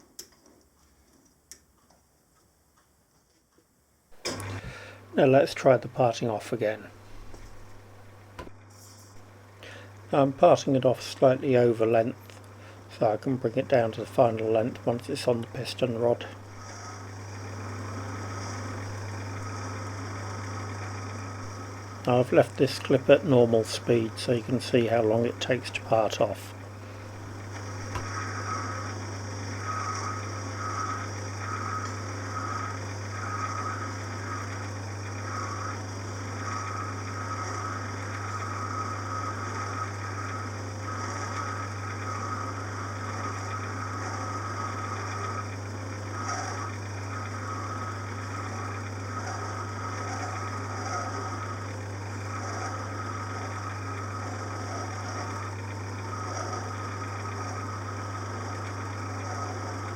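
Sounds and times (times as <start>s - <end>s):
lathe humming: 4.1s - 59.9s.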